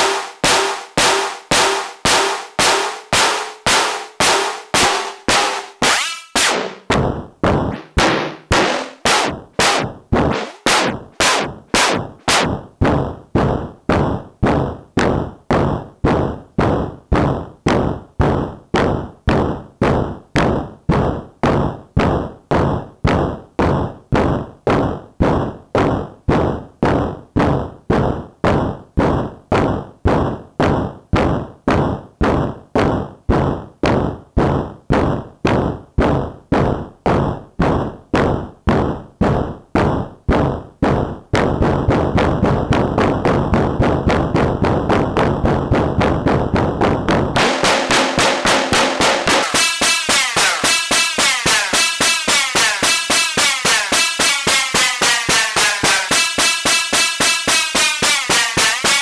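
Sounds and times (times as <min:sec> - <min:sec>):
synthesizer thunks: 0:00.0 - 0:59.0.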